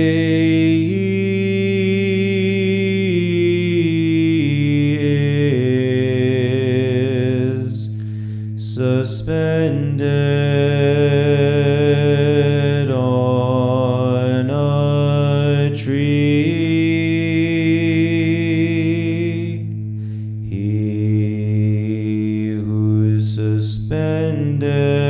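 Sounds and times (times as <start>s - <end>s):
low held vocal drone: 0.0s - 25.0s
man singing a slow chant: 0.0s - 25.0s.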